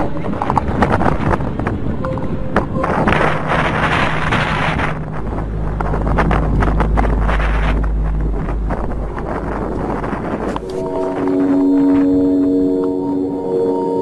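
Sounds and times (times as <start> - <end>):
low steady hum: 0.0 - 14.0
wind buffeting microphone: 0.0 - 14.0.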